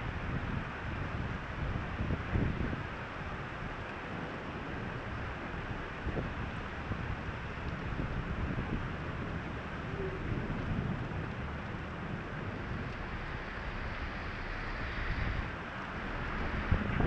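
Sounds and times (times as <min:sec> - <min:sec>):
heavy rain on a car: 0:00.0 - 0:17.0
low wind rumble: 0:00.0 - 0:17.0.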